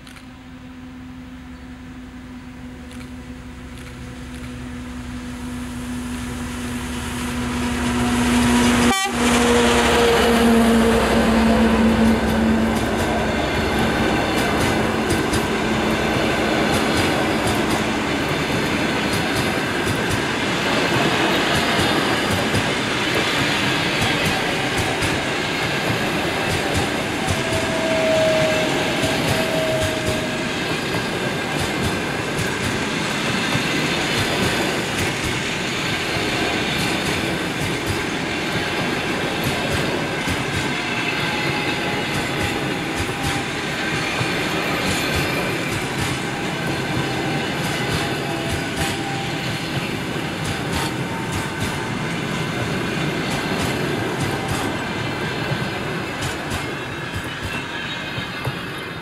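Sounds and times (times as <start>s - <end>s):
diesel locomotive engine passing: 0.0s - 59.0s
train coaches rushing past: 0.2s - 59.0s.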